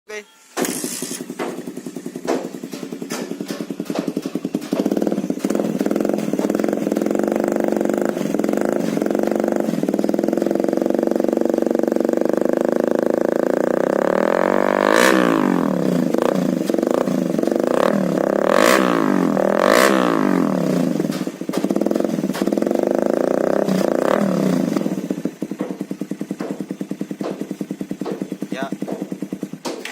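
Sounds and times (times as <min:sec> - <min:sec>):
motorcycle engine revving: 0:00.6 - 0:29.9.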